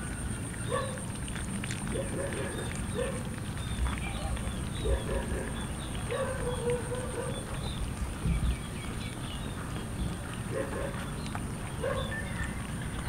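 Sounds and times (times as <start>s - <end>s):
cats eating from metal bowl: 0.0s - 13.0s.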